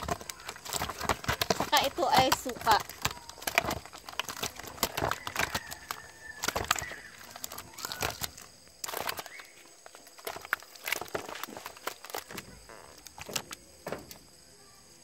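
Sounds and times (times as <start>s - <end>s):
plastic sachet crinkling: 0.0s - 13.5s
fish splashing in water: 0.0s - 14.2s
fish slapping against plastic: 0.0s - 14.3s.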